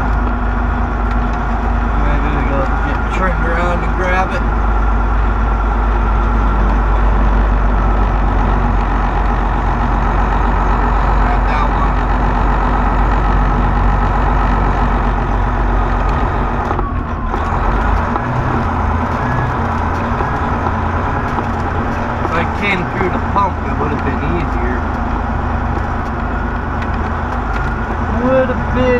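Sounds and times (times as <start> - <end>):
truck diesel engine rumbling: 0.0 - 28.9.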